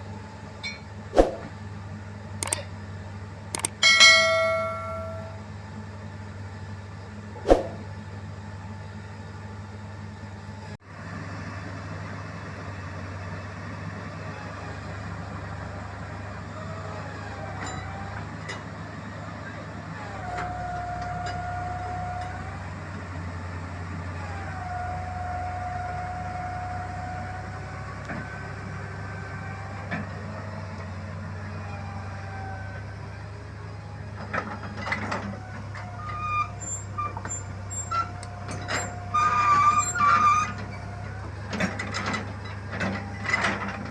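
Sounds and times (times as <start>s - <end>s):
engine whine: 0.0s - 10.8s, 19.4s - 43.9s
harvester diesel engine running: 0.0s - 43.9s.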